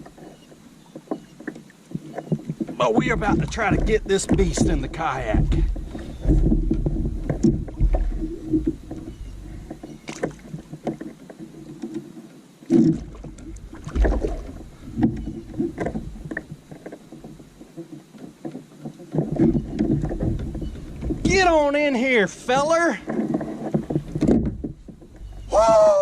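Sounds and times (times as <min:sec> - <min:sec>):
knocks and bumps on kayak: 0:00.0 - 0:12.1, 0:12.7 - 0:26.0.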